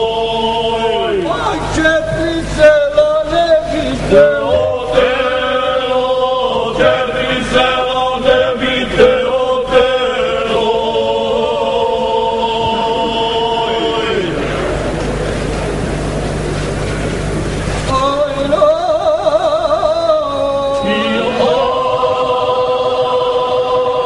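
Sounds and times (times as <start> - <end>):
group singing unaccompanied folk song: 0.0 - 15.0, 18.0 - 24.0.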